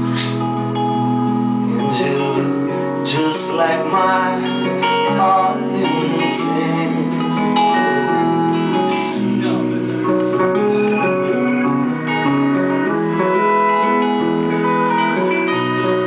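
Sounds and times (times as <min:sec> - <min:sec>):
live band playing ballad: 0:00.0 - 0:16.0
strummed acoustic guitar: 0:00.0 - 0:16.0.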